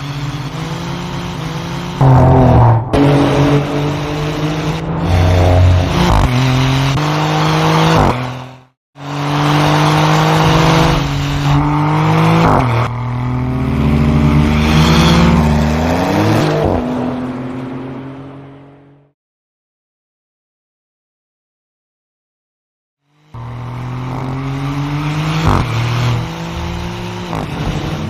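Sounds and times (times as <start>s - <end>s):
car engine revving: 0.0s - 19.1s, 23.1s - 28.0s.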